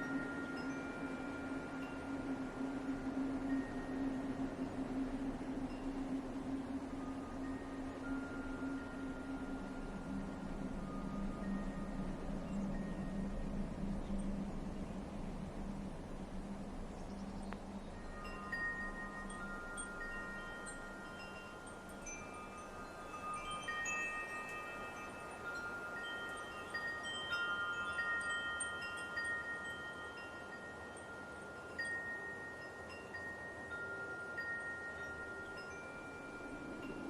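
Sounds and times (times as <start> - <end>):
soft hiss of wind: 0.0 - 37.0
wind chimes ringing: 0.0 - 37.0.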